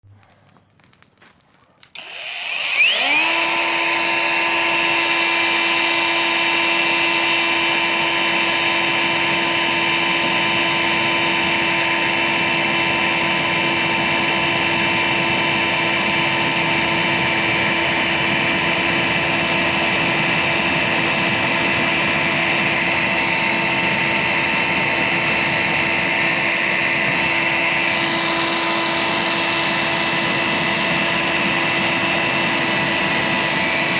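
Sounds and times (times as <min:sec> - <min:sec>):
angle grinder whining: 0:01.9 - 0:33.9.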